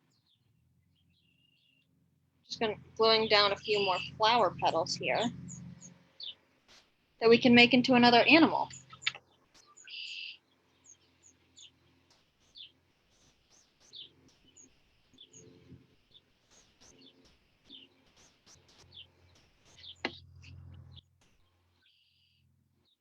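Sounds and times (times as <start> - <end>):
faint low hum: 0.0 - 22.9
small birds chirping: 2.5 - 23.0.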